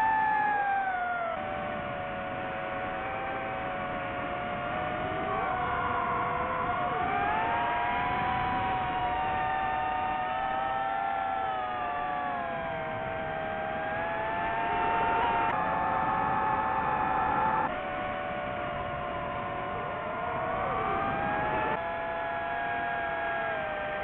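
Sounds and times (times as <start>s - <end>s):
drone propellers whining: 0.0s - 24.0s.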